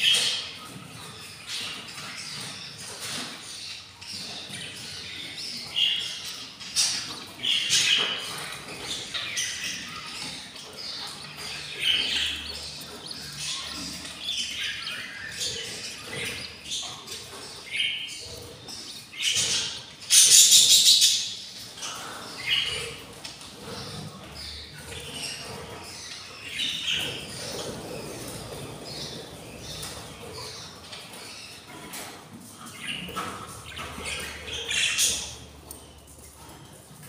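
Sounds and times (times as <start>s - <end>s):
budgies chirping: 0.0s - 37.0s.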